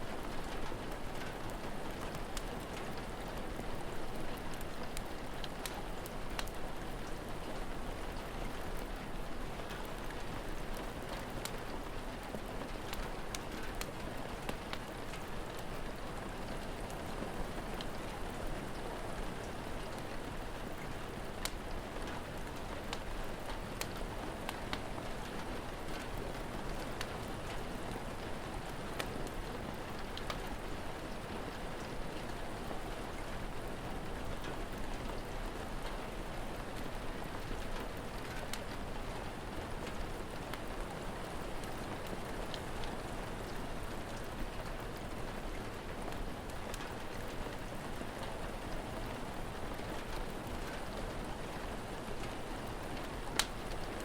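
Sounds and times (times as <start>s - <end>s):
steady rain falling: 0.0s - 54.0s
wood fire crackling: 0.2s - 7.5s, 8.1s - 18.8s, 19.4s - 54.0s.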